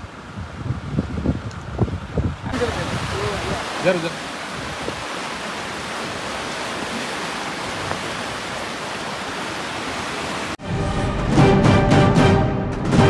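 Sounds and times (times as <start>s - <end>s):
floodwater rushing past bridge piers: 0.0s - 10.6s.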